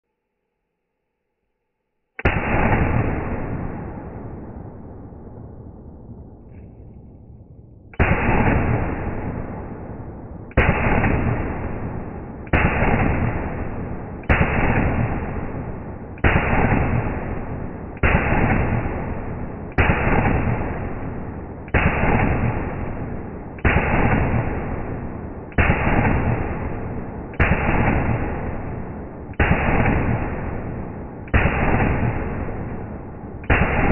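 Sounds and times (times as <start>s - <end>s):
slowed rifle shots: 2.2s - 33.9s.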